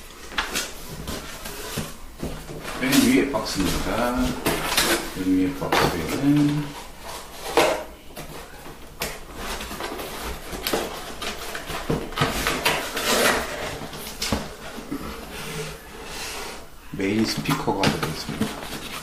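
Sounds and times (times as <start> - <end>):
cardboard rubbing and scraping: 0.4 - 7.6, 9.2 - 16.7, 17.7 - 19.0.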